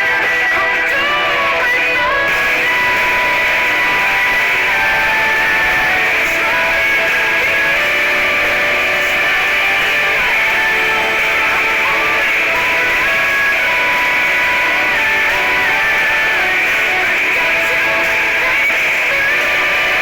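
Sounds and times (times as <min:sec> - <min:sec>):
guitar background music: 0:00.0 - 0:20.0.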